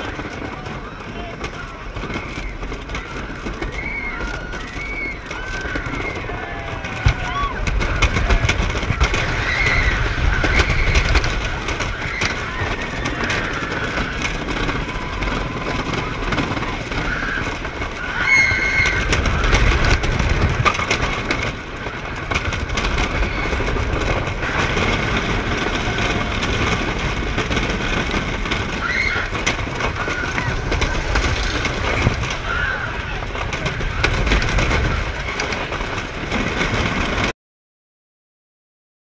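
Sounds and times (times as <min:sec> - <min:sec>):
riders shouting: 0:00.0 - 0:36.7
roller coaster rumbling on track: 0:00.0 - 0:37.3
wind on microphone: 0:00.0 - 0:37.3.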